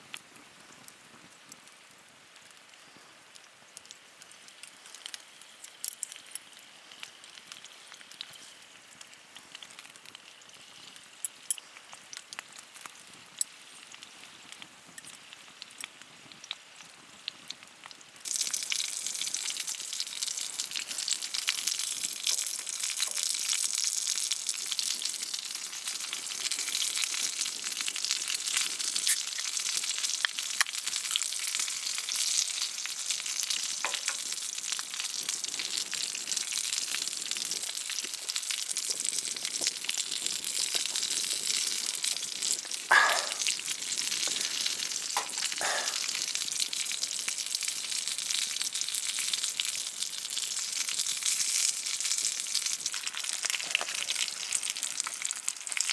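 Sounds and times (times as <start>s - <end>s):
steak sizzling in a pan: 3.4s - 55.9s.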